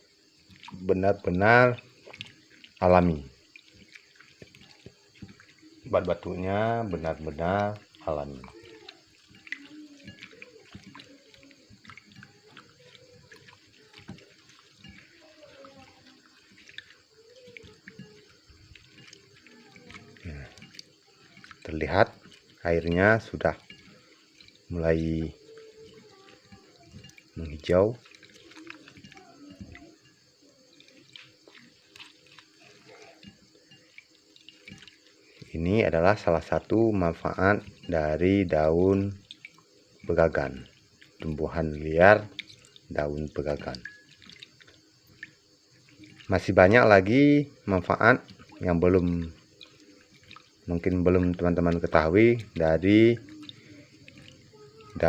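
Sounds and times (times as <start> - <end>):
small water splashes: 0.0 - 55.0
wet squishes of leaves: 0.0 - 55.0.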